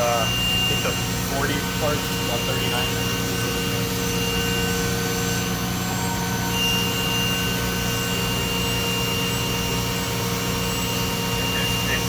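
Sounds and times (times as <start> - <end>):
machining center humming and hissing: 0.0 - 12.0.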